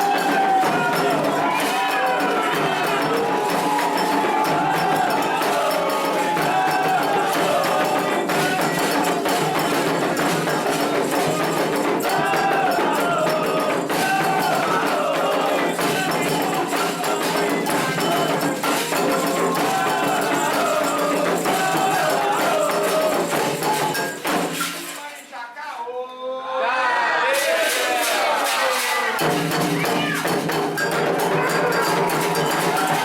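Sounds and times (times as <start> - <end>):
hand percussion: 0.0 - 25.3, 27.4 - 33.0
people singing: 0.0 - 33.0.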